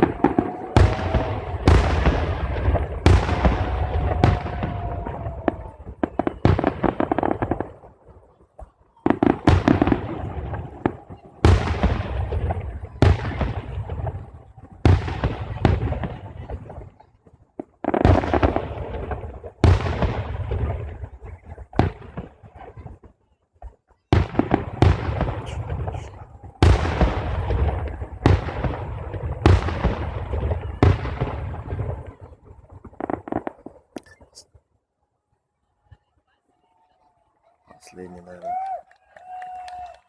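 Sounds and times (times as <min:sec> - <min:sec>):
fireworks bursting and crackling: 0:00.0 - 0:34.7.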